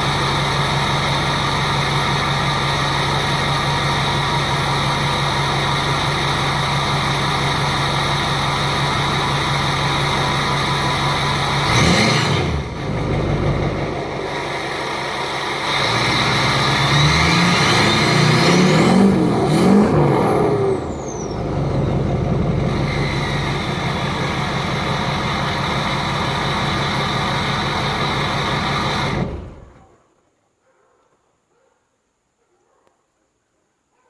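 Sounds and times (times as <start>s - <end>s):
diesel truck engine revving: 0.0s - 30.0s.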